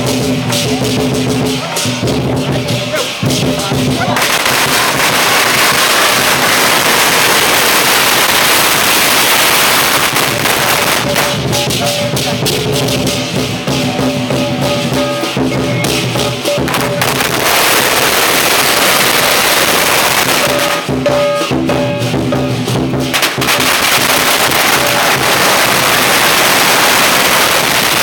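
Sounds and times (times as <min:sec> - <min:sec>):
cymbals: 0:00.0 - 0:28.0
drum: 0:00.0 - 0:28.0
firecrackers crackling: 0:00.0 - 0:28.0.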